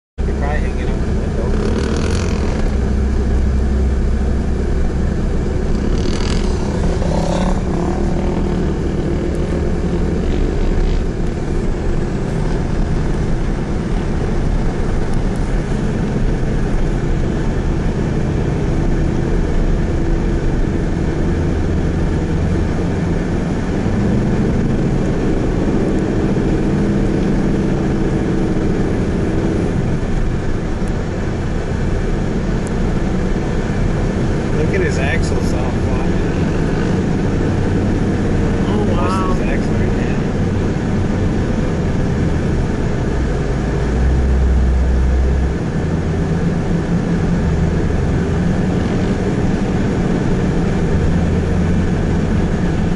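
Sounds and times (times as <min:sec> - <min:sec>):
vehicle engines running: 0:00.2 - 0:52.9.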